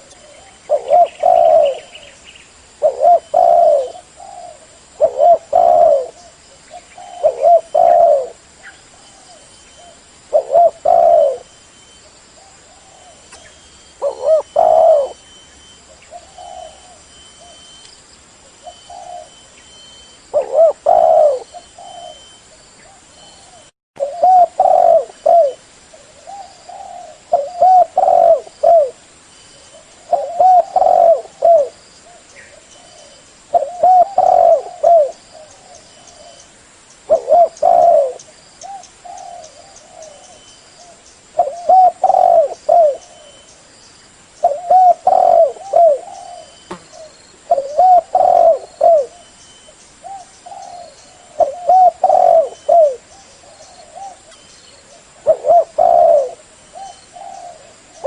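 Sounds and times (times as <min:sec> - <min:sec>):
dove cooing: 0:00.0 - 0:11.5, 0:12.4 - 0:17.8, 0:18.5 - 0:29.0, 0:29.6 - 0:36.4, 0:37.1 - 0:43.5, 0:44.4 - 0:58.0.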